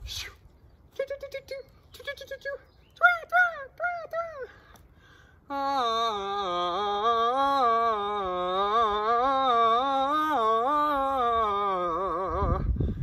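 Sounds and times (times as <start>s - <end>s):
person singing wordless tune: 0.9s - 4.7s, 5.4s - 12.8s.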